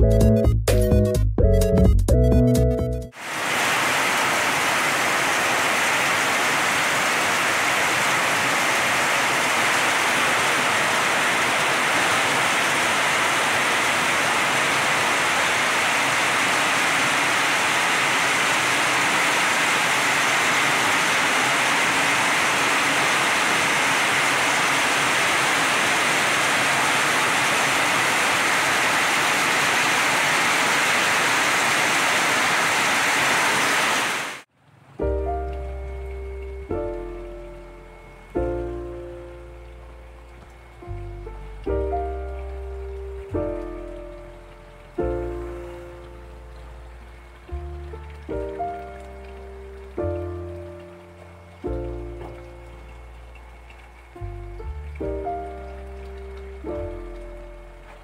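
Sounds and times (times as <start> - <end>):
steady rain: 3.1 - 58.0.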